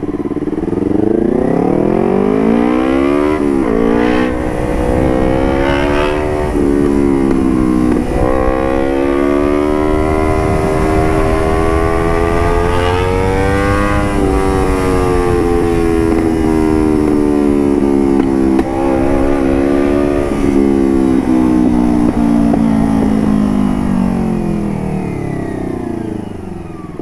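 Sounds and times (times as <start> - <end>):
motorcycle engine shifting gears: 0.0 - 27.0
wind and road noise: 0.0 - 27.0.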